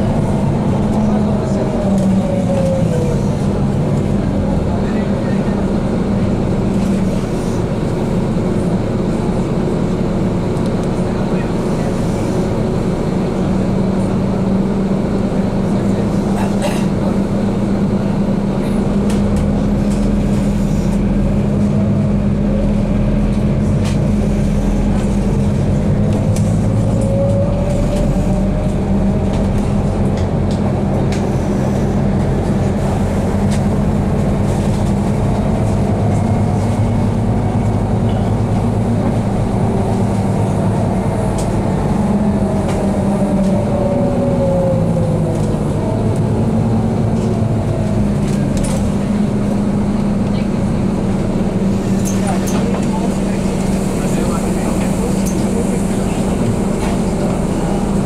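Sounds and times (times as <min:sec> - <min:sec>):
bus drivetrain hum: 0:00.0 - 0:58.0
road noise: 0:00.0 - 0:58.0.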